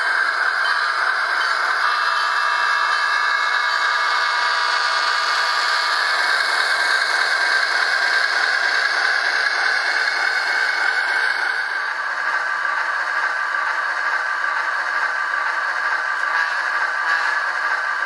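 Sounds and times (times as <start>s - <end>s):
diesel engine sound through small speaker: 0.0s - 18.0s.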